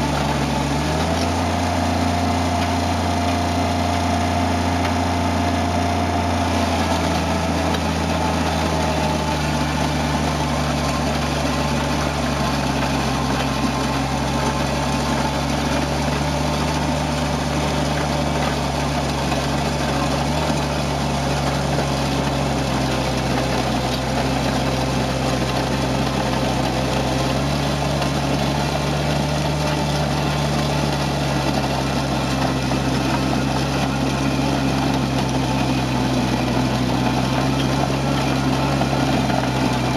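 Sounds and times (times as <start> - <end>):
loader engine running under load: 0.0 - 39.9
rotating drum scraping through gravel: 0.0 - 39.9.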